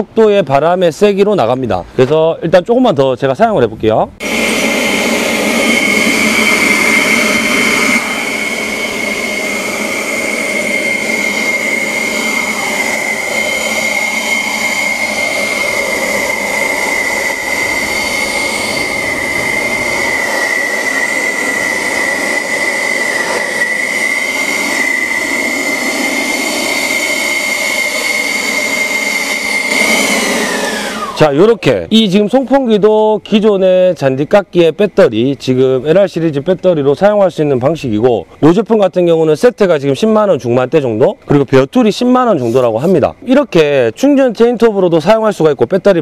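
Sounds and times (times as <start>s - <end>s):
leaf blower fan whine: 4.2s - 46.0s.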